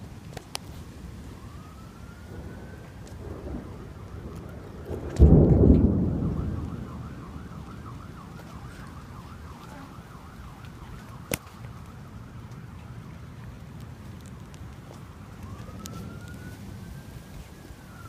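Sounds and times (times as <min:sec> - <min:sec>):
wavering siren: 0:00.6 - 0:18.0
thunderclap rumbling: 0:01.0 - 0:18.0.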